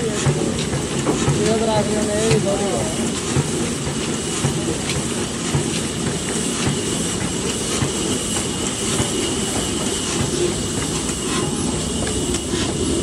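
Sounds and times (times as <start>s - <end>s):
diesel engine clattering: 0.0s - 13.0s.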